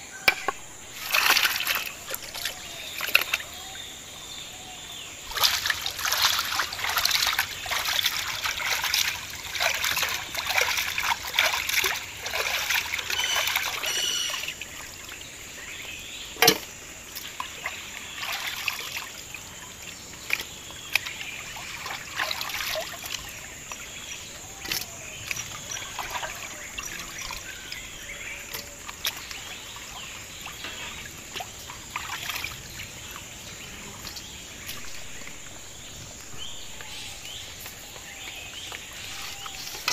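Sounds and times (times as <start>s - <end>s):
water dripping: 0.2s - 3.6s, 5.3s - 39.9s
water sloshing and splashing: 0.2s - 39.9s.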